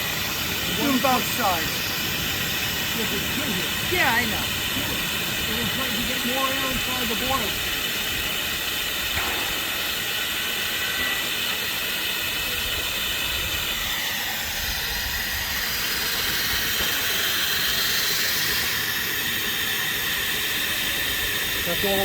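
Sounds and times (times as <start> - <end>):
steam hissing from valves: 0.0 - 22.0.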